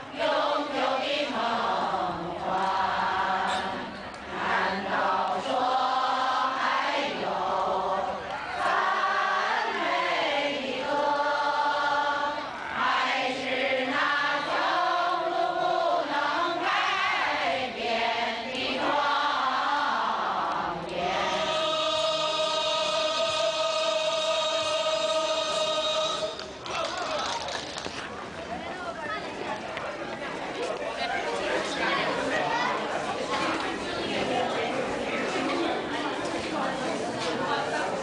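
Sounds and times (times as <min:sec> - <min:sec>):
choir singing slow chant: 0:00.0 - 0:26.6, 0:31.6 - 0:38.0.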